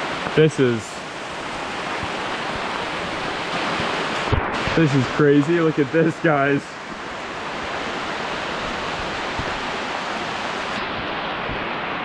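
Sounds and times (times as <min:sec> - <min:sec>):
heavy rain on foliage: 0:00.0 - 0:12.0.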